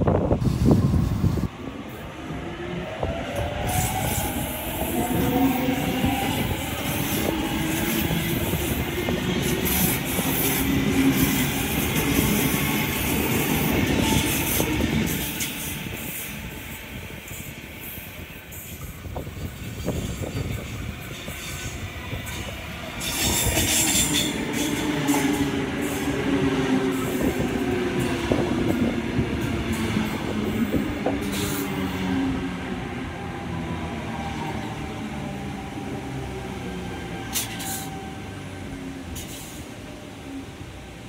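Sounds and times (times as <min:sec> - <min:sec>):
electric train motor and wheels: 0:00.0 - 0:41.0.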